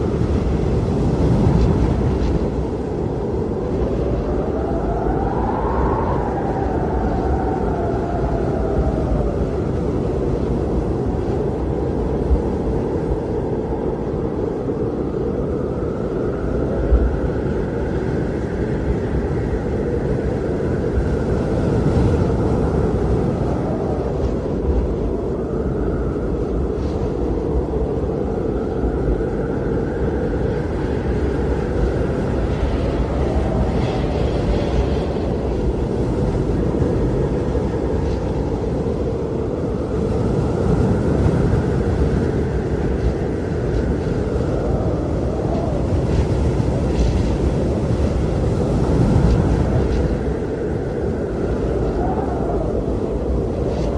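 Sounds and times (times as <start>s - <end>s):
blizzard wind blowing: 0.0s - 53.9s.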